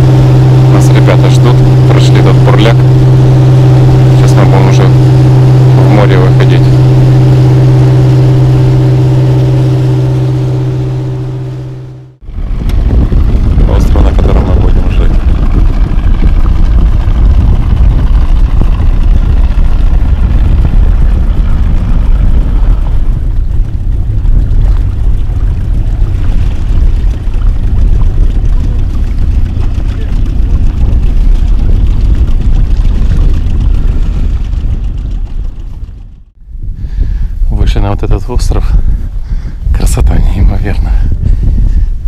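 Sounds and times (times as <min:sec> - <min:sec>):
outboard motor engine: 0:00.0 - 0:42.0
wind rumble on microphone: 0:00.0 - 0:42.0.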